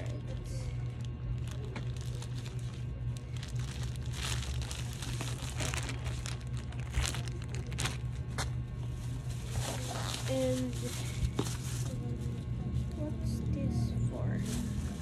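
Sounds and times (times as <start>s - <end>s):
plastic bags crinkling: 0.0s - 12.1s
steady low hum: 0.0s - 15.0s.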